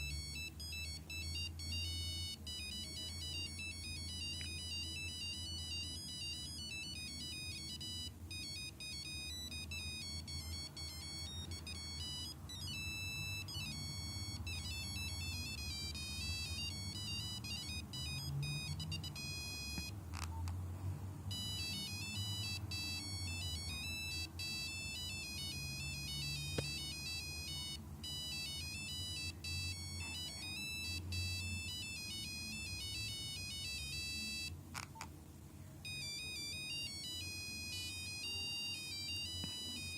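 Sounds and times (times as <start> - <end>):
mobile phone ringtone beeps: 0.0 - 20.5, 21.3 - 35.1, 35.8 - 39.9.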